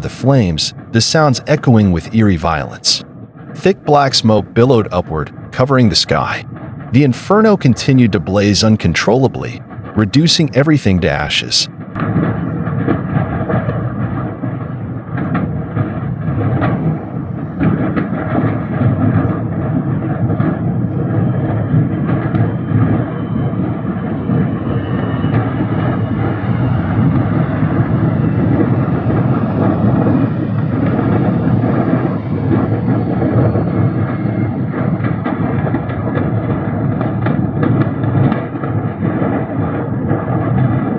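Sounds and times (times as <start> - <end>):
fire crackling and popping: 0.0 - 40.9
roar of flames: 0.0 - 40.9.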